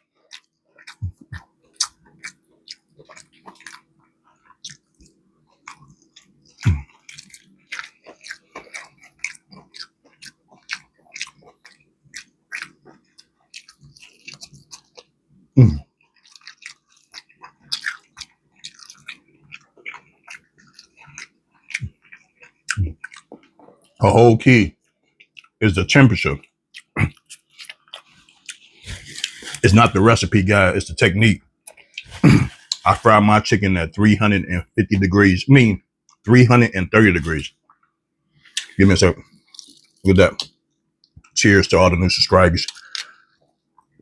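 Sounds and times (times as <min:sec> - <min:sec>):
chewing crispy chicken: 0:00.0 - 0:33.2, 0:37.0 - 0:44.0.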